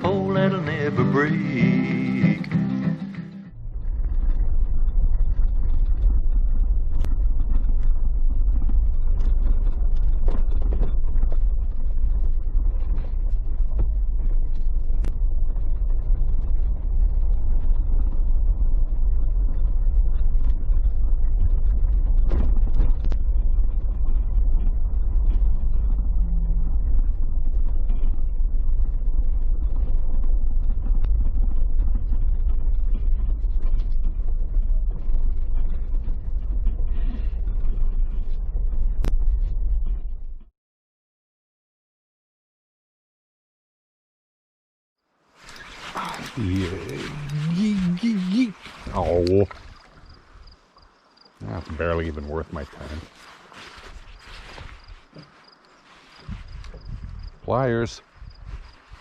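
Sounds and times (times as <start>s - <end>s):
motorboat engine rumble: 0.0s - 40.4s, 45.4s - 59.0s.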